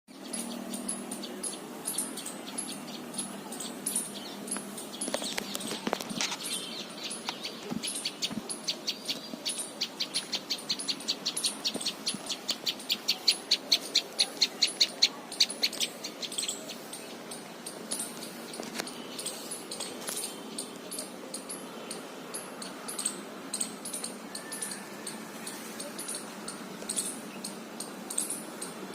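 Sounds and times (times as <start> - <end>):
bird chirping: 0.1 - 28.9.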